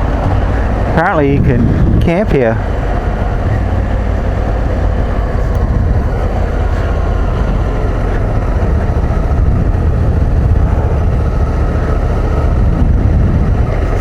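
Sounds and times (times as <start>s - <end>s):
motorcycle engine running: 0.0s - 14.0s
tyres rolling on dirt: 0.0s - 14.0s.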